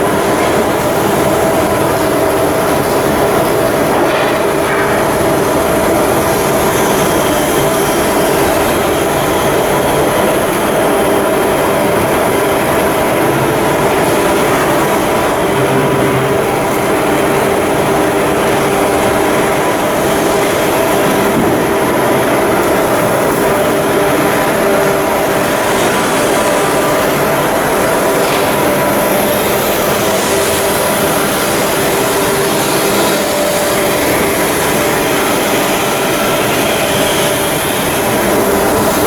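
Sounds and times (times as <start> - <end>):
machinery humming: 0.0 - 39.0.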